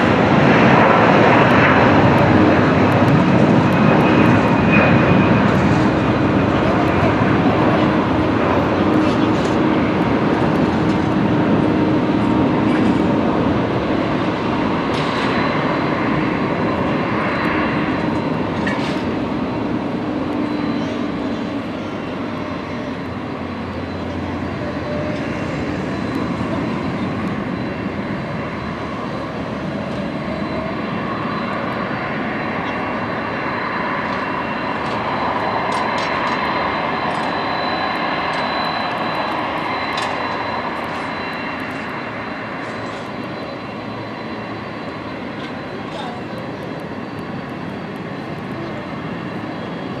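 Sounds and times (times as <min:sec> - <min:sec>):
jet airliner climbing rumble: 0:00.0 - 0:50.0.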